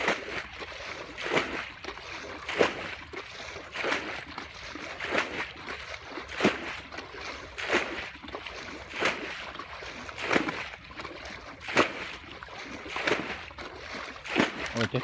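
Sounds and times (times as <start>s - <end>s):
bucket scooping water: 0.0s - 15.0s
water splashing: 0.0s - 15.0s.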